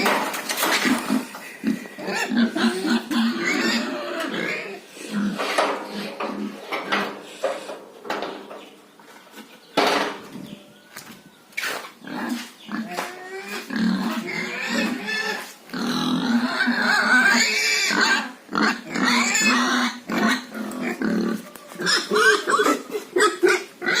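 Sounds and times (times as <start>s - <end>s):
pigs grunting and squealing: 0.0s - 7.9s, 12.0s - 24.0s.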